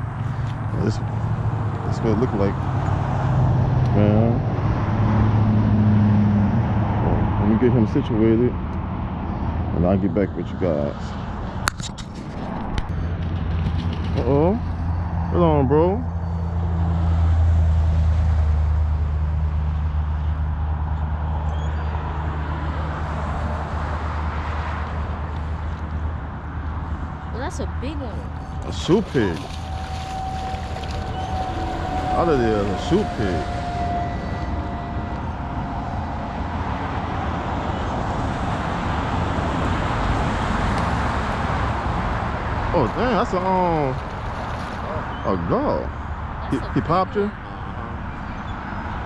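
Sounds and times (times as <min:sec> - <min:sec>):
road traffic noise: 0:00.0 - 0:49.0
vehicle engine hum: 0:00.0 - 0:49.0.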